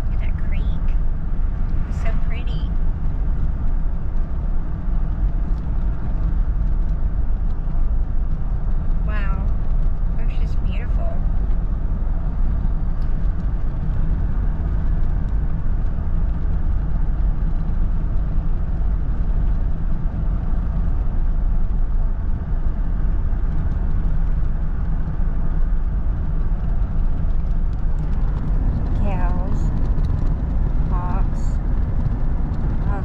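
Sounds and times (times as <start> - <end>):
car cabin road and engine rumble: 0.0 - 33.0.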